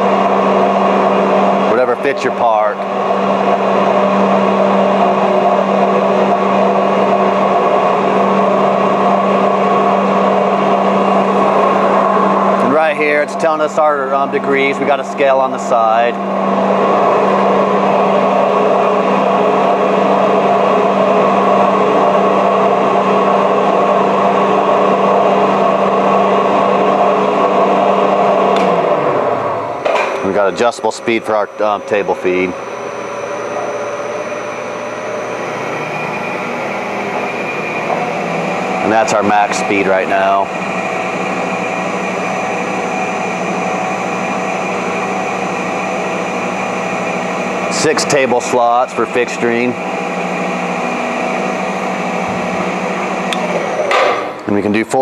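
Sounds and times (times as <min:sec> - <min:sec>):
motor and gears humming: 0:00.0 - 0:55.0.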